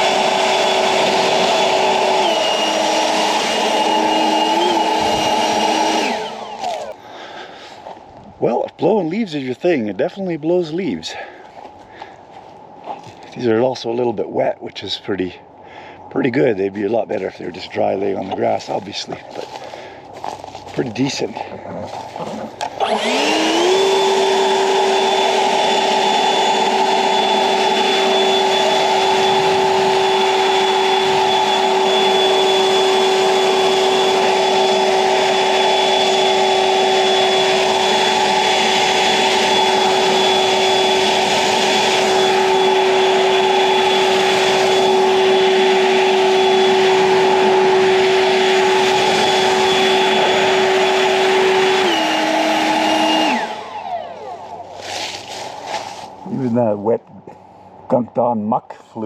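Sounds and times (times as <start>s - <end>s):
leaf blower whine and air rush: 0.0s - 14.0s, 16.0s - 57.9s.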